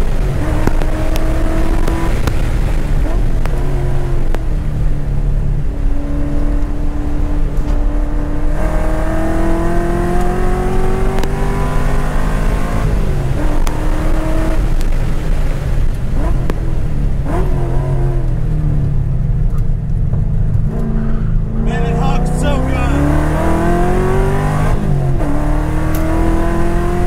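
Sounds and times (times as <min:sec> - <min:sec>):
car engine at full throttle: 0:00.0 - 0:27.0.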